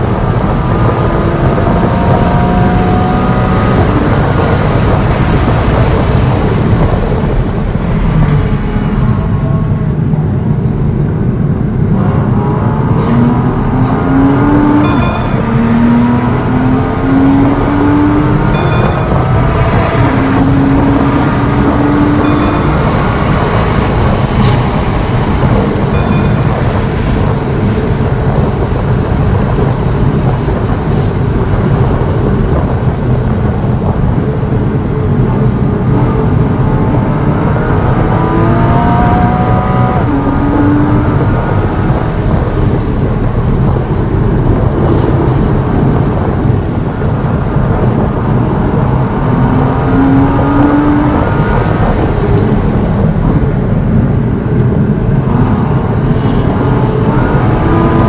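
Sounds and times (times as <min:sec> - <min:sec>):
car engine at high revs: 0:00.0 - 0:58.0.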